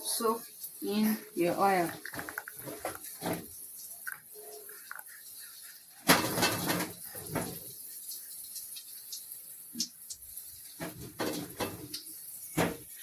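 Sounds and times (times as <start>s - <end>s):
batter deep-frying in hot oil: 0.0s - 13.0s.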